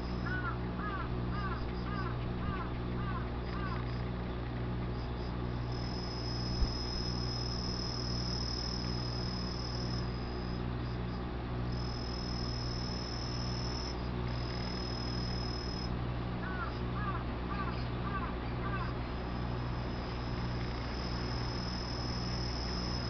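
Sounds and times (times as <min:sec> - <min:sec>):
insect trilling: 0:00.0 - 0:04.2, 0:04.9 - 0:23.0
low pulsing hum: 0:00.0 - 0:23.0.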